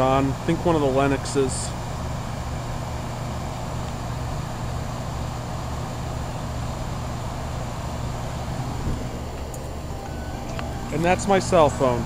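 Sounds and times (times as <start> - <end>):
compressor hum: 0.0 - 12.0
condenser fans whooshing: 0.0 - 12.0.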